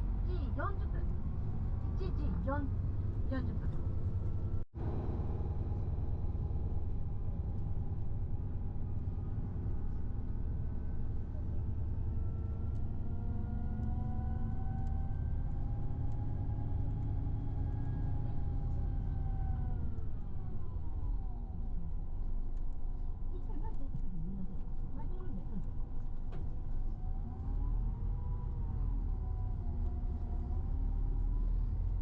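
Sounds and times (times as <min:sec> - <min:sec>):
bus engine and road rumble: 0:00.0 - 0:32.0
bus whine: 0:00.0 - 0:32.0.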